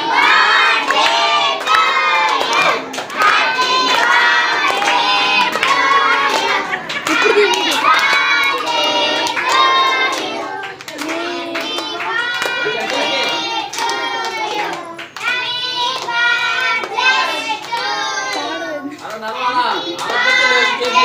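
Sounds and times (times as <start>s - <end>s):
hand claps: 0.3s - 19.4s
children shouting and singing: 3.8s - 21.0s.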